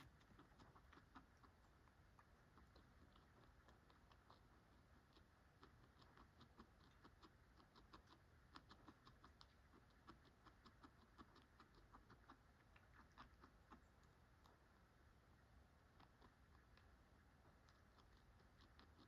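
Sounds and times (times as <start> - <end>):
guinea pig chewing pellets: 0.0 - 19.0.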